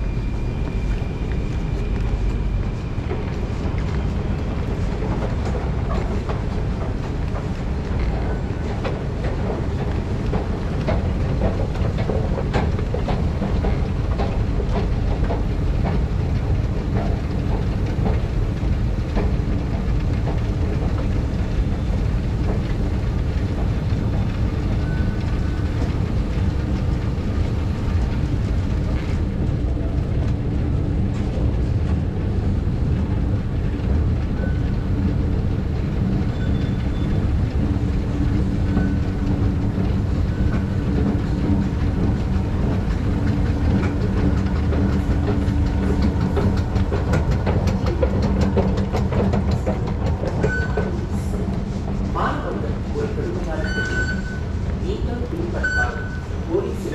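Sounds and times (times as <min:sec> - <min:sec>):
escalator running: 0:00.0 - 0:56.9.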